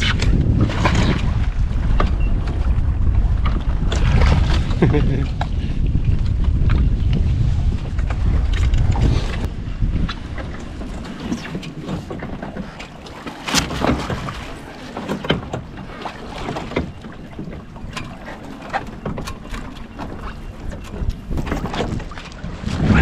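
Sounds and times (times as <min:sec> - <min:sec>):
water splashing against hull: 0:00.0 - 0:23.0
wind on microphone: 0:00.0 - 0:23.0.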